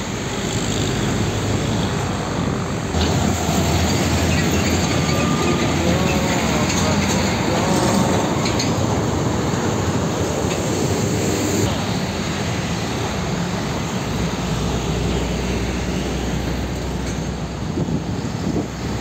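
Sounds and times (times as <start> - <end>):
diesel trucks driving past: 0.0 - 19.0
low engine drone: 0.0 - 19.0.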